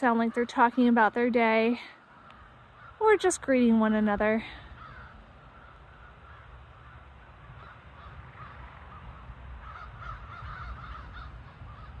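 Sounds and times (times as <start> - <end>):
flock of crows cawing: 0.0 - 1.0, 1.7 - 3.4, 4.4 - 12.0.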